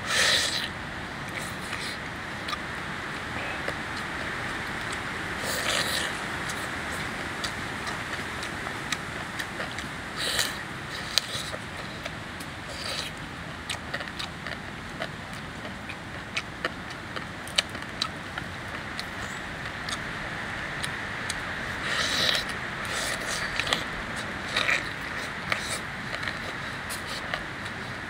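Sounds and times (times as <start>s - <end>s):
crunching and chewing: 0.0s - 28.0s
steady background hiss: 0.0s - 28.0s.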